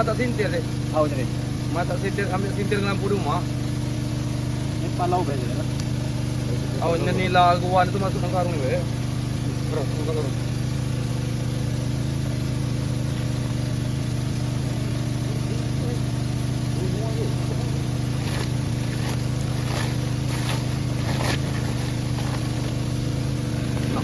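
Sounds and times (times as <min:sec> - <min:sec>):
small pump engine running: 0:00.0 - 0:24.0.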